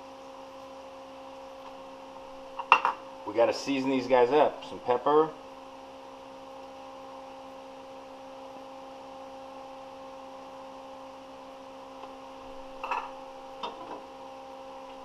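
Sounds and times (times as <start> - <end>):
steady hum with tones: 0.0 - 15.0.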